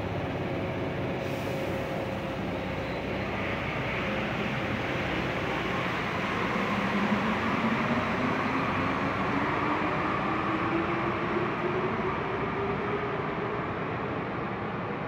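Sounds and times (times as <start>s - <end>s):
metro train accelerating: 0.0s - 15.0s.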